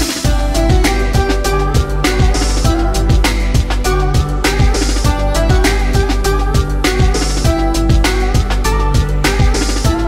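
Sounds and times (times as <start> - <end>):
drum beat: 0.0 - 10.0
upbeat instrumental music: 0.0 - 10.0.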